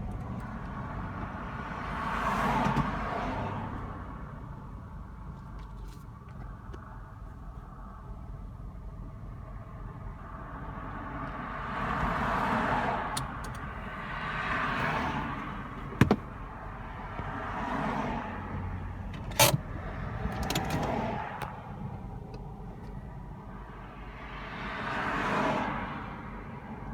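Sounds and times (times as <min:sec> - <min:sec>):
cars passing on road: 0:00.0 - 0:26.9.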